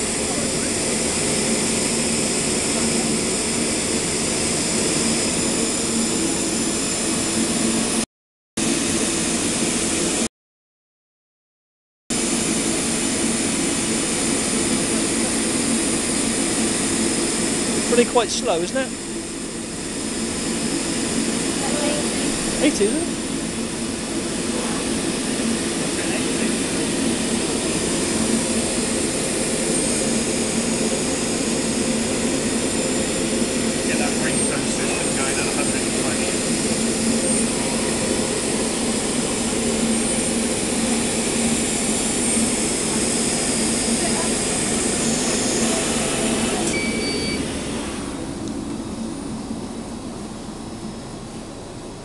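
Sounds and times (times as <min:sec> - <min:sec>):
cutting machine droning: 0:00.0 - 0:08.0, 0:12.2 - 0:50.0.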